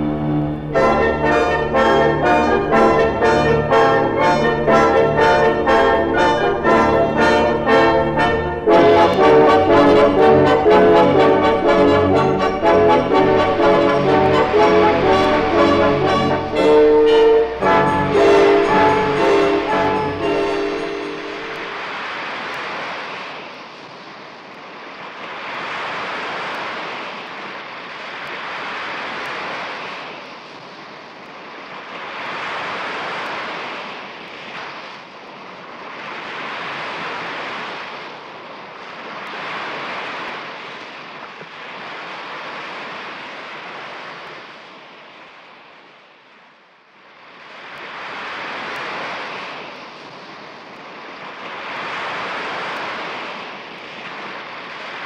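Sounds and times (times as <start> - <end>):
sea surf washing onto beach: 0.0 - 45.9, 47.3 - 55.0.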